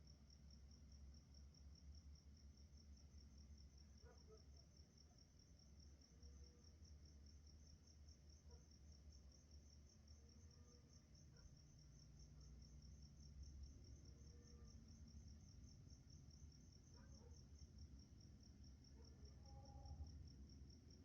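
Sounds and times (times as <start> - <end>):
insect chirping: 0.1 - 21.0.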